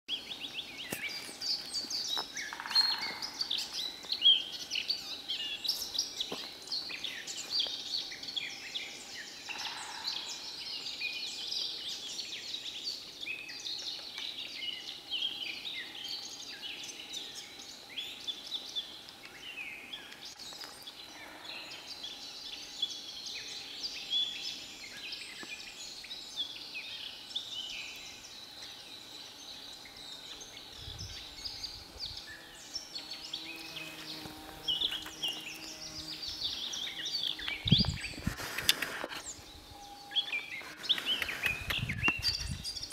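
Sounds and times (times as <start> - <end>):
songbirds singing and chirping: 0.1 - 42.9.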